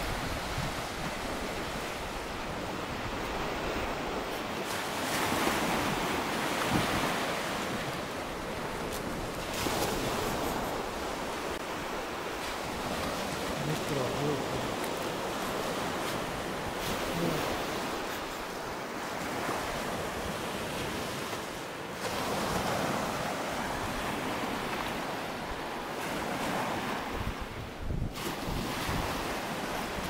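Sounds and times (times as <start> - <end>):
wind buffeting microphone: 0.0 - 20.4, 25.5 - 30.0
surf washing onto shore: 0.0 - 30.0.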